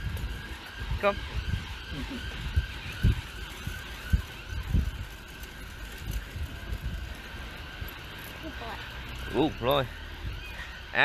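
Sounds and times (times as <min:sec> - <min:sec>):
faint ambulance siren: 0:00.0 - 0:11.0
road traffic: 0:00.0 - 0:11.0.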